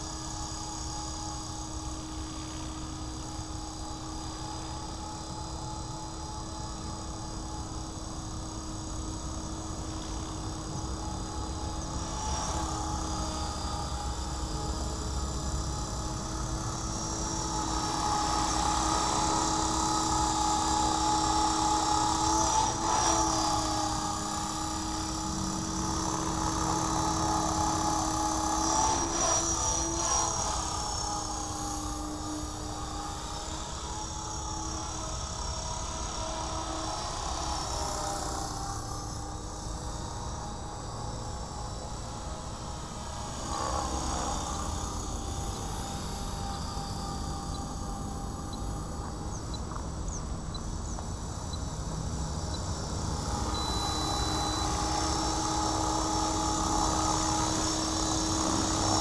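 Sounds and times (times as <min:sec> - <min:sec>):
rc helicopter rotor drone: 0:00.0 - 0:59.0.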